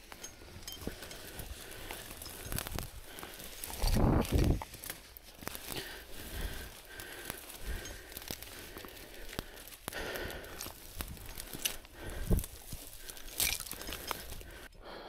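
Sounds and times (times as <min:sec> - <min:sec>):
dry brush crackling and rustling: 0:00.0 - 0:14.7.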